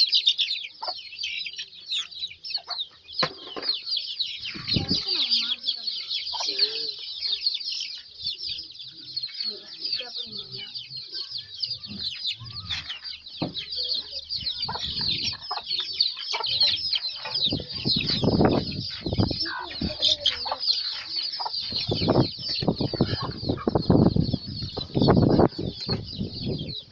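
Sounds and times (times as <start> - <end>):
chicks peeping: 0.0 - 26.9
hens clucking: 0.0 - 26.9.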